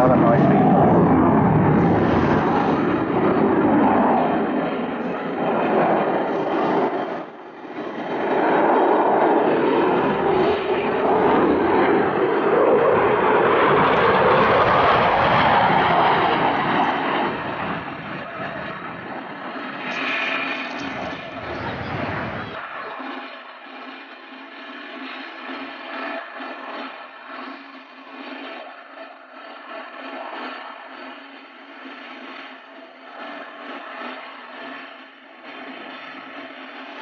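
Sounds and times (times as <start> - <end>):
jet flying past: 0.0 - 37.0.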